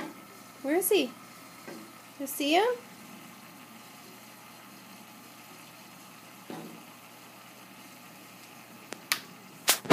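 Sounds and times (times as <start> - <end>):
aquarium pumps hum and hiss: 0.0 - 9.9.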